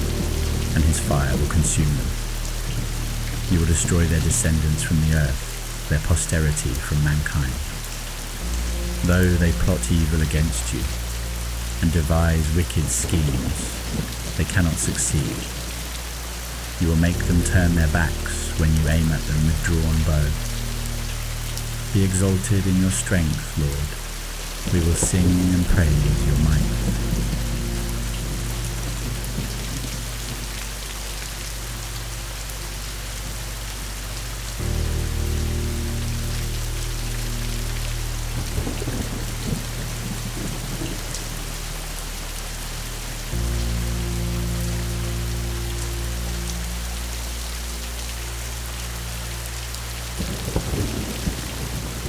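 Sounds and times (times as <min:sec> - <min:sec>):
thunder rumbling: 0:00.0 - 0:47.9, 0:49.0 - 0:52.0
low music drone: 0:00.0 - 0:52.0
steady rain falling: 0:00.0 - 0:52.0.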